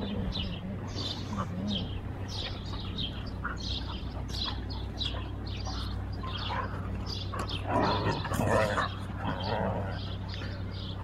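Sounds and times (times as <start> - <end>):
birds chirping: 0.0 - 11.0
dogs vocalizing while play-fighting: 0.0 - 11.0.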